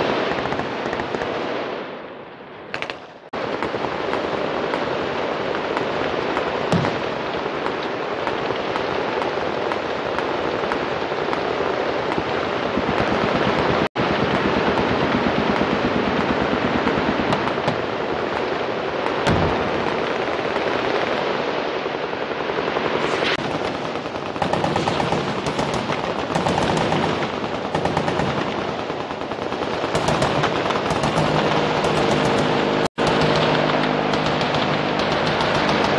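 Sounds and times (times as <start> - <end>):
machine guns firing: 0.0 - 1.6, 2.7 - 21.4, 23.0 - 35.9.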